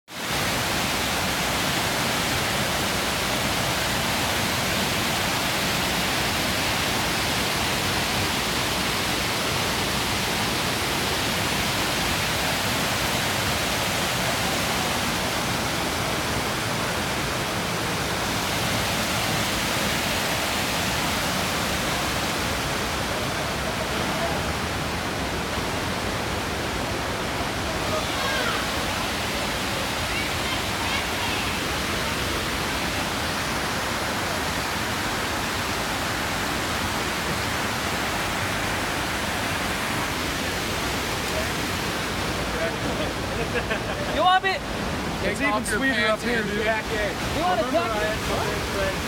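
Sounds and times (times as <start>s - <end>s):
waterfall rushing: 0.1s - 49.0s.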